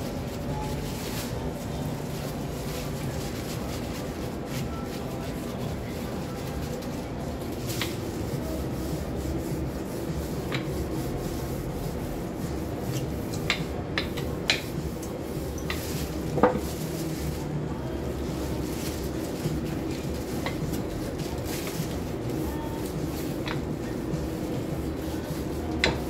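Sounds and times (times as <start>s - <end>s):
rolling pin rubbing on dough: 0.1s - 26.0s.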